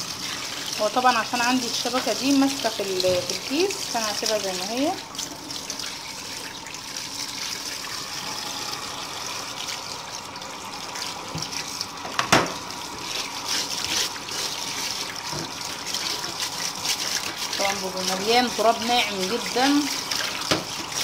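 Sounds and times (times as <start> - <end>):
tap water splashing in sink: 0.0 - 8.0, 10.9 - 21.0.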